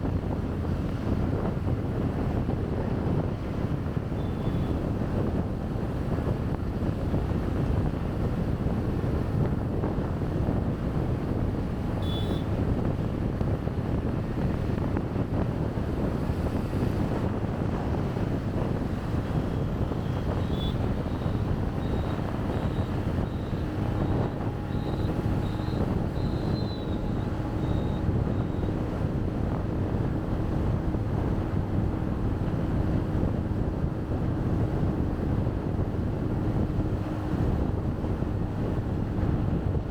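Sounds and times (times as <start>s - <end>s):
road traffic rumble: 0.0s - 39.9s
wind rushing over microphone: 0.0s - 39.9s.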